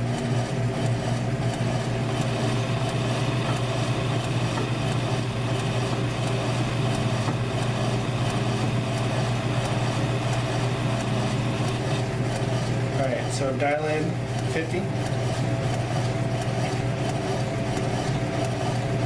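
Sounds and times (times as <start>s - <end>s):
metal lathe humming: 0.1s - 19.0s.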